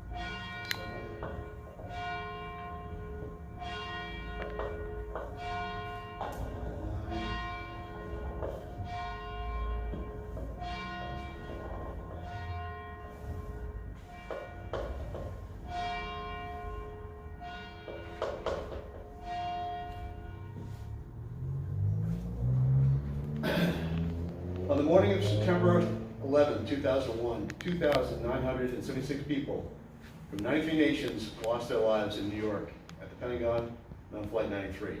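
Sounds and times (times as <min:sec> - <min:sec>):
church bells ringing: 0:00.0 - 0:33.8.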